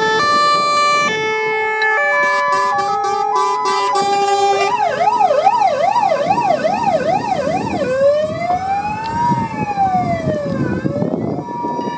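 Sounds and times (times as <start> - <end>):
fire engine siren: 0.0 - 11.9.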